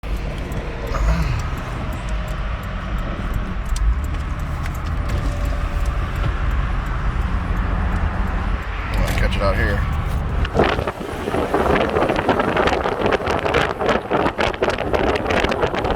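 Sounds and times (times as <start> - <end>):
road and engine noise: 0.0 - 15.9
small ticks: 0.0 - 15.9.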